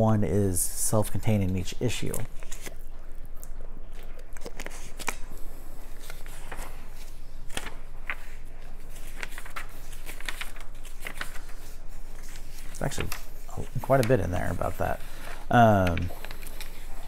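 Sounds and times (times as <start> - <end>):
magazine pages rustling: 0.8 - 3.1, 3.9 - 17.0.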